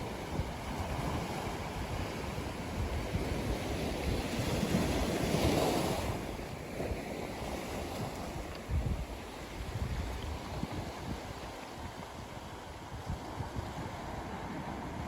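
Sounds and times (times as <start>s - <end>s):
ocean waves crashing on beach: 0.0s - 15.0s
wind rumble on microphone: 0.0s - 15.0s.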